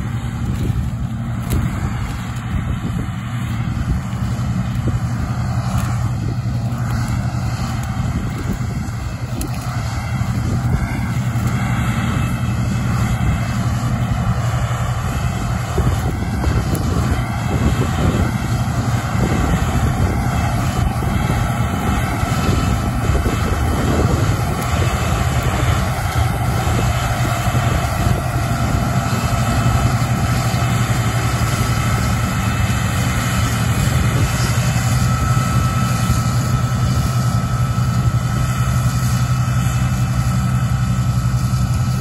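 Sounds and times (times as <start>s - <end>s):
combine harvester engine drone: 0.0s - 42.0s.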